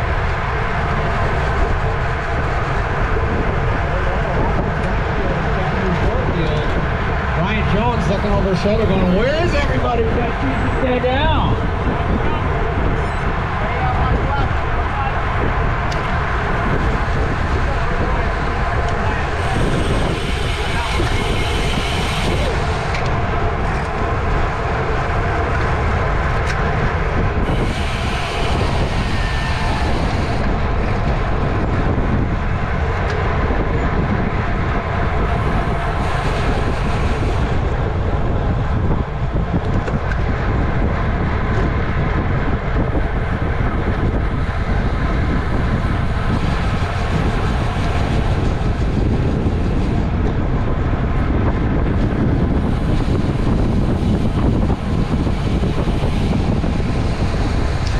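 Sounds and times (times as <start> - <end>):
wind rushing across microphone: 0.0 - 57.9.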